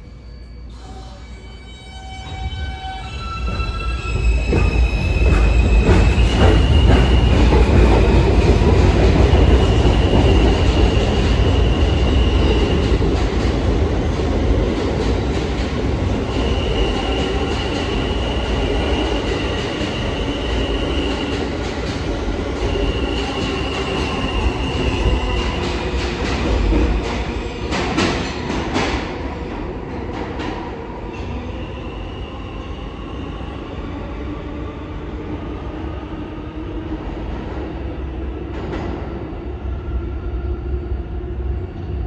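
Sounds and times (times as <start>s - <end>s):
subway train wheels rumbling: 0.0s - 42.0s.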